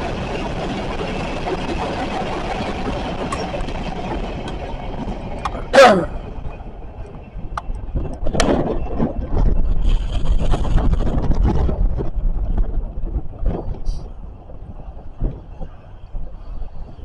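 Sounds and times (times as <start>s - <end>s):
train clanks and squeals: 0.0s - 11.0s, 12.6s - 17.0s
train rumbling past: 0.0s - 17.0s
wind buffeting microphone: 0.0s - 17.0s.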